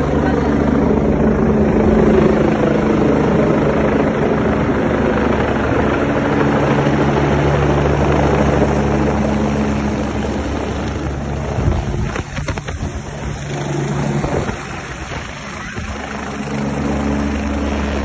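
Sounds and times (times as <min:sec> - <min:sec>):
helicopter rotor and engine: 0:00.0 - 0:18.0.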